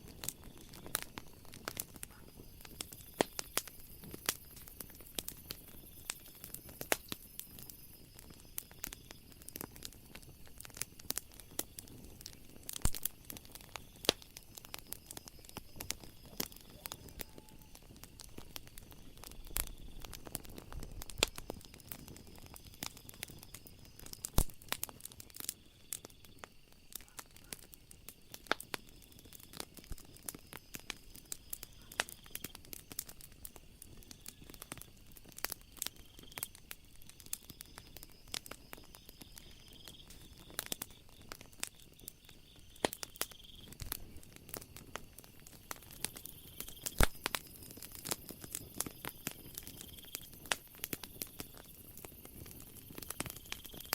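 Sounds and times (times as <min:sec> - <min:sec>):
night insects chirring: 0:00.0 - 0:53.9
wood fire crackling and popping: 0:00.0 - 0:53.9.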